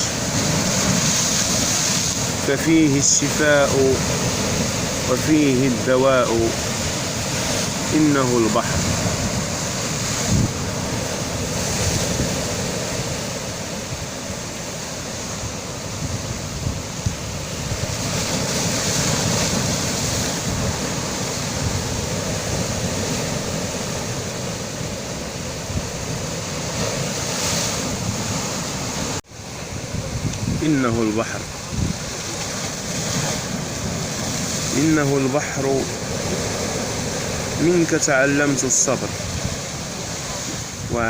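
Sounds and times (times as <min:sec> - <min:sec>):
sea waves surging on shore: 0:00.0 - 0:41.0.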